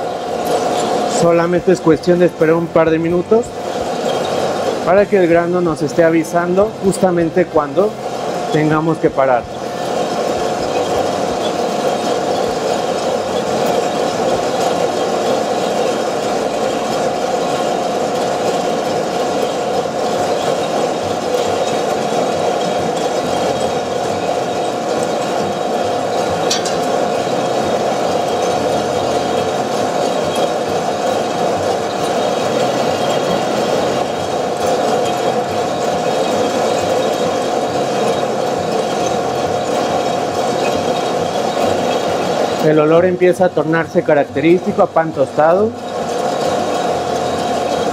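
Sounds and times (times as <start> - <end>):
coffee roaster humming: 0.0 - 47.9.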